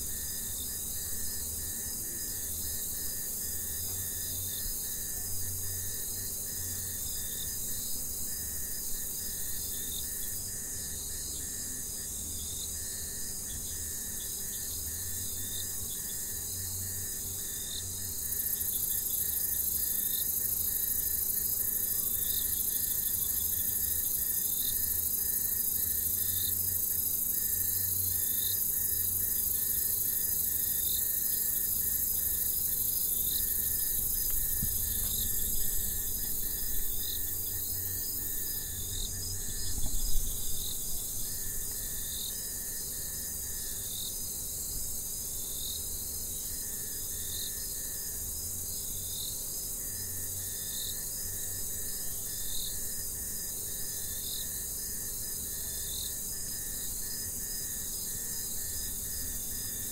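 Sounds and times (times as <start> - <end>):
crickets chirping: 0.0 - 59.9
high-pitched insect drone: 0.0 - 59.9.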